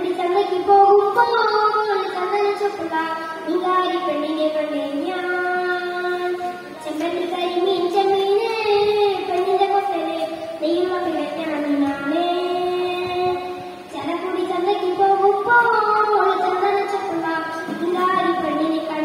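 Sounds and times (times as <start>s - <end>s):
boy singing unaccompanied: 0.0s - 19.0s.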